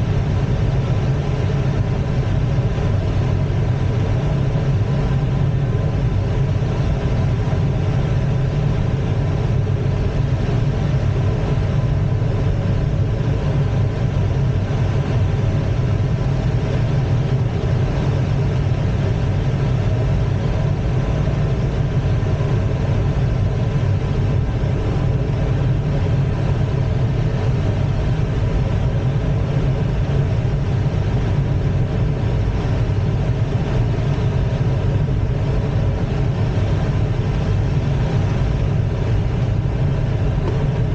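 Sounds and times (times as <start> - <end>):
airflow rumble in cockpit: 0.0 - 40.9
faint steady hum: 0.0 - 40.9.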